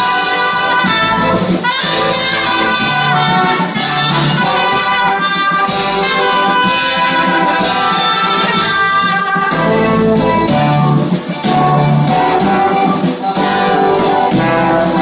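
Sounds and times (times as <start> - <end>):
live band playing: 0.0 - 15.0
trumpets and horns: 0.0 - 15.0.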